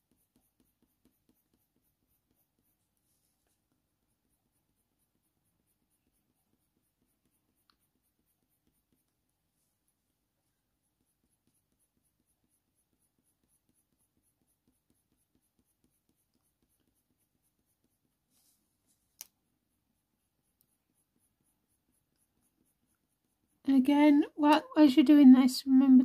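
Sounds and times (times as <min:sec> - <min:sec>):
pencil scratching on paper: 0:00.0 - 0:26.0.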